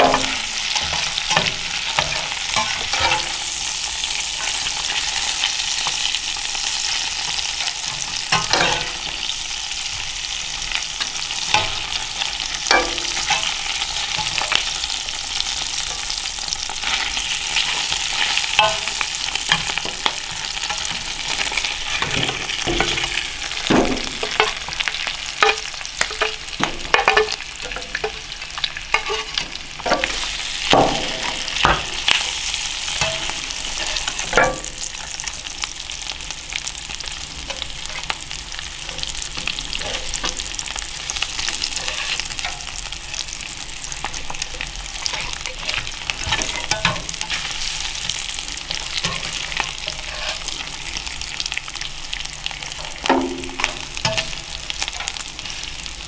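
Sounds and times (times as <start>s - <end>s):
metal utensils scraping cast iron: 0.0s - 9.3s, 10.7s - 35.4s, 36.6s - 51.8s, 52.5s - 55.7s
meat sizzling in pans: 0.0s - 56.0s.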